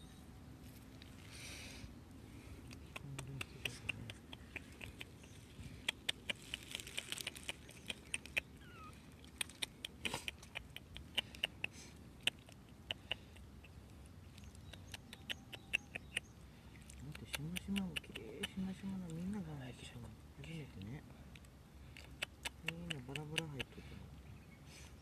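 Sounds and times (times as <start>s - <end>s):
kittens clicking and ticking: 2.5s - 19.6s, 20.7s - 24.0s.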